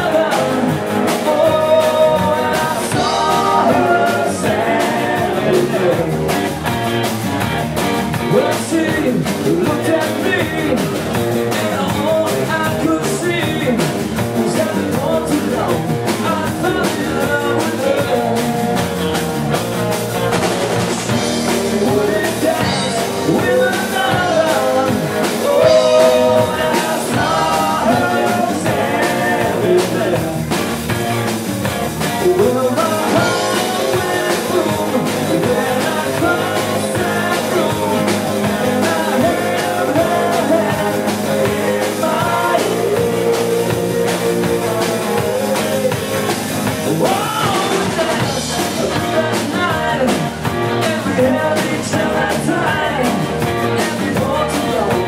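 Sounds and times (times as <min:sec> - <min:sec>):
man singing: 0:00.0 - 0:07.0, 0:08.1 - 0:30.8, 0:32.0 - 0:55.0
bass: 0:00.0 - 0:55.0
drums: 0:00.0 - 0:55.0.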